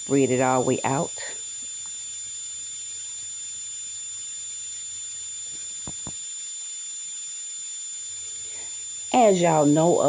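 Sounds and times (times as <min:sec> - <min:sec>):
high-pitched whine: 0:00.0 - 0:10.0.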